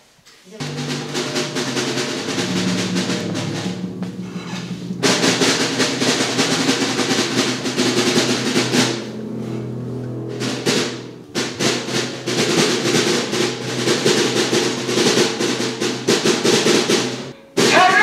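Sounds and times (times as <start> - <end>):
held low notes: 0.6 - 16.3
rapid drumming: 0.6 - 18.0.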